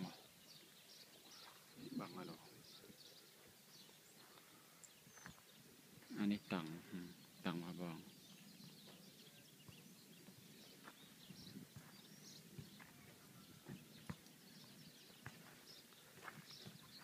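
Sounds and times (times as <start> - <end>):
distant bird chirps: 0.0 - 17.0.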